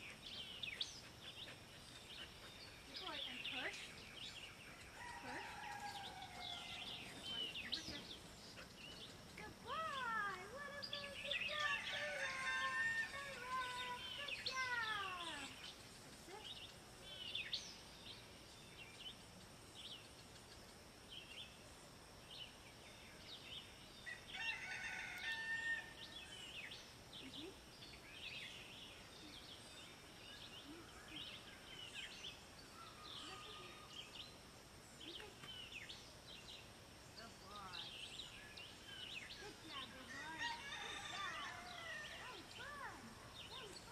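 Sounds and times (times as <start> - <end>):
birds chirping and calling: 0.0 - 20.6, 25.9 - 43.9.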